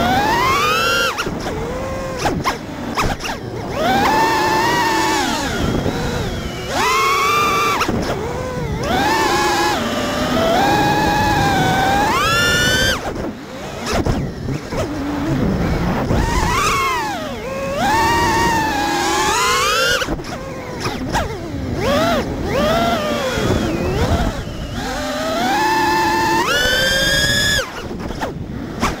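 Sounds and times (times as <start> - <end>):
drone motors and propellers whining: 0.0 - 29.0
wind rushing over microphone: 0.0 - 29.0.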